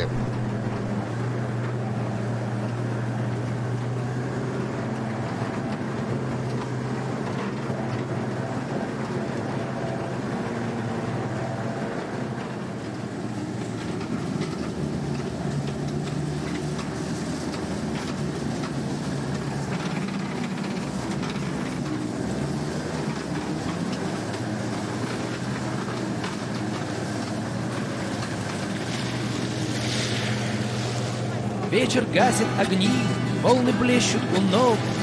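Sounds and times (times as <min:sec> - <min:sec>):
tracked vehicle engine droning: 0:00.0 - 0:35.0.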